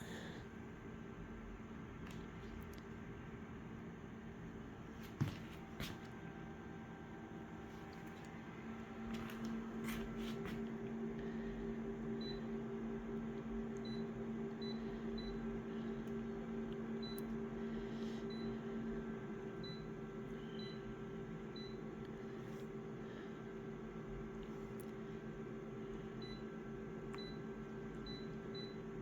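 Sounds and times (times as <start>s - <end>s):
photocopier humming: 4.3s - 29.0s.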